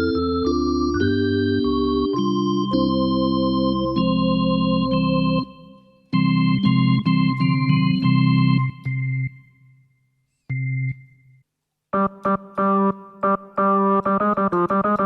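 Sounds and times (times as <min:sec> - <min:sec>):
organ chords on keyboard: 0:00.0 - 0:09.8, 0:11.9 - 0:15.0.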